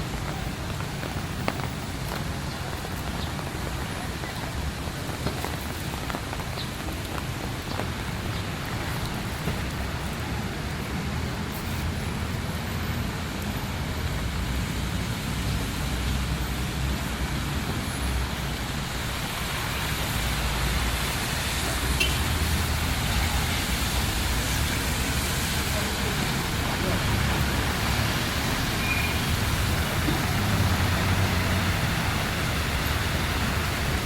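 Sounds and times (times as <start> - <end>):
heavy rain hissing: 0.0 - 34.0
road traffic rumble: 0.0 - 34.0.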